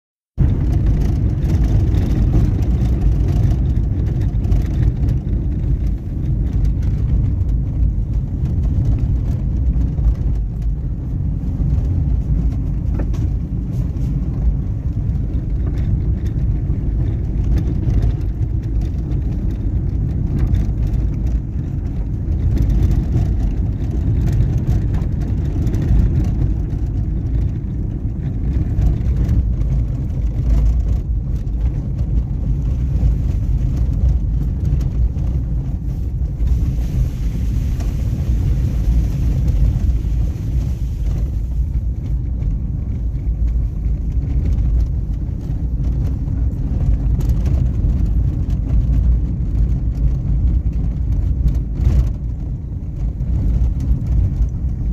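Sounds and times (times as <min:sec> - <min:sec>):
low rumbling noise: 0:00.3 - 0:54.9.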